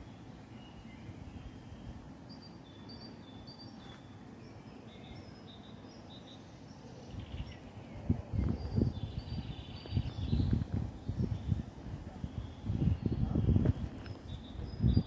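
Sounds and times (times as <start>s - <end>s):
low steady background rumble: 0.0s - 15.0s
small birds chirping: 0.0s - 15.0s.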